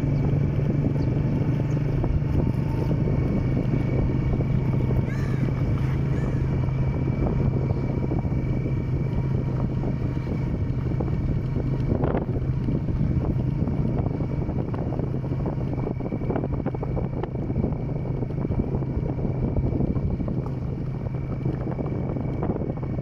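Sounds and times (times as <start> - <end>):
small motorcycle engine drone: 0.0 - 23.0
wind buffeting microphone: 0.0 - 23.0.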